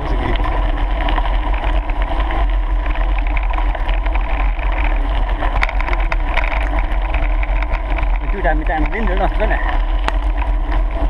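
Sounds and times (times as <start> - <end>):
gravel crunching and rattling: 0.0 - 11.0
wind rumbling on microphone: 0.0 - 11.0.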